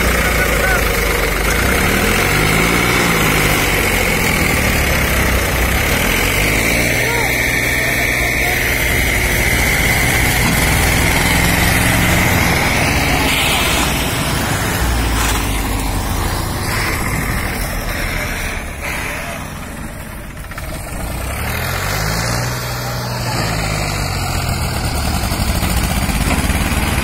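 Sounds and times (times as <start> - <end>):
diesel tractor engines idling: 0.0 - 27.0.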